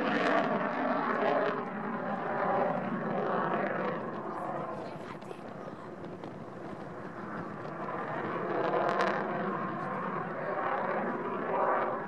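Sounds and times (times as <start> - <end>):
distant jet engine rush: 0.0 - 12.0.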